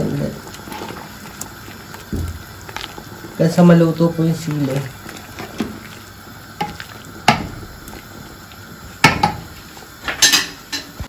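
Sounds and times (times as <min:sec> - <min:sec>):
soup bubbling: 0:00.0 - 0:11.0.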